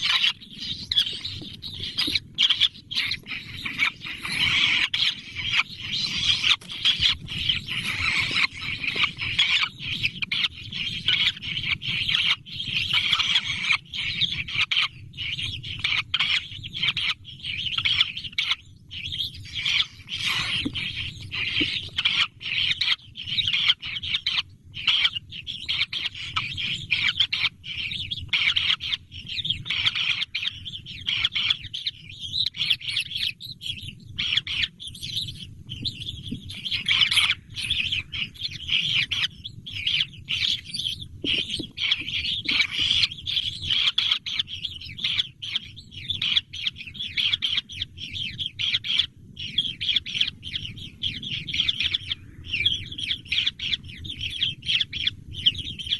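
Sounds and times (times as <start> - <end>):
young birds chirping: 0.0 - 55.9.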